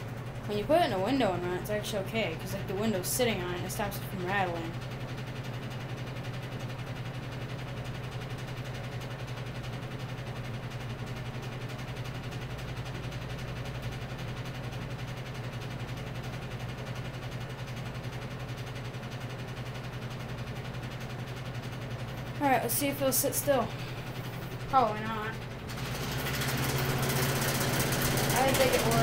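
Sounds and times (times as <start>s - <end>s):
box fan motor hum: 0.0s - 29.0s
fan rattle: 0.0s - 29.0s.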